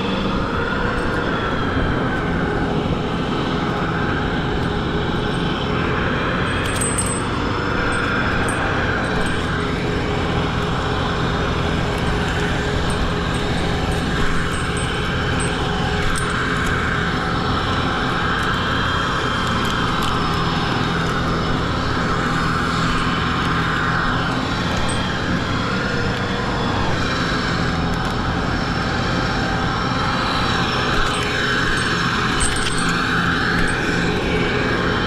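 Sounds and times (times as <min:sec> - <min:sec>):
engine running steadily: 0:00.0 - 0:35.0.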